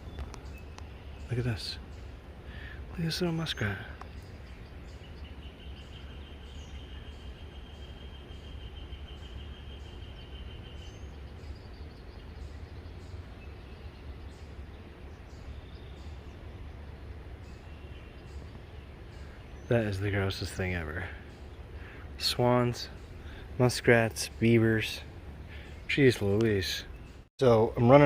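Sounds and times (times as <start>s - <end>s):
steady low rumble: 0.0s - 27.9s
small birds chirping: 0.0s - 28.0s.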